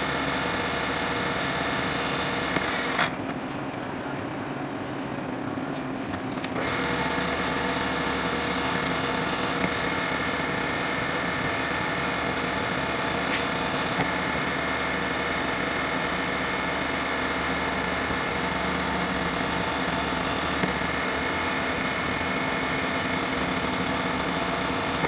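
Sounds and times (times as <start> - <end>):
milling machine spindle whine: 0.0 - 3.1, 6.6 - 25.0.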